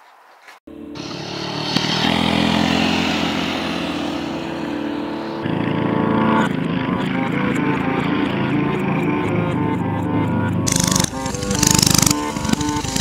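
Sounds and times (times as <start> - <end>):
mini bike engines running hard: 1.0 - 9.4, 10.6 - 13.0.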